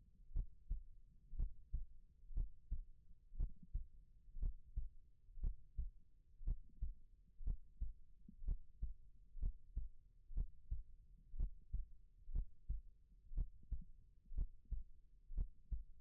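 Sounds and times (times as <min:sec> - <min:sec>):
slow heartbeat: 0:00.3 - 0:16.0.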